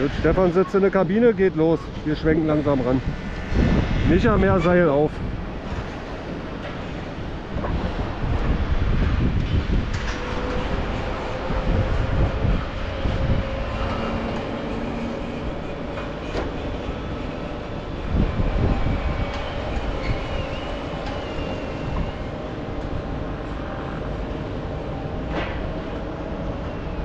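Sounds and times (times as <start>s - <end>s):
crane machinery humming: 0.0s - 27.0s
wind rumbling on microphone: 0.0s - 27.0s.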